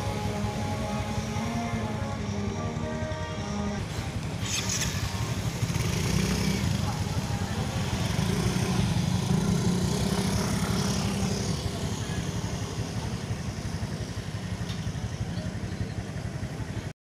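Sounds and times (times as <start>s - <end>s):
motor scooters passing: 0.0s - 16.9s.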